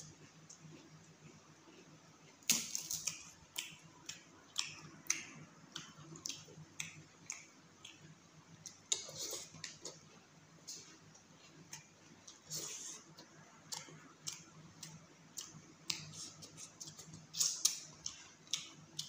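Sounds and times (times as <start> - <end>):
wet chewing and smacking: 0.0 - 19.0.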